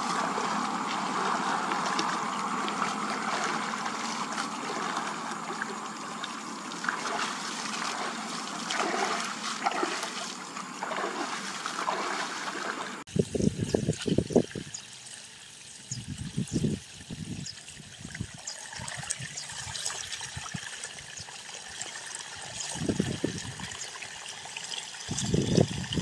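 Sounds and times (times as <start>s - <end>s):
water flowing in ditch: 0.0s - 26.0s
water splashing: 0.0s - 26.0s.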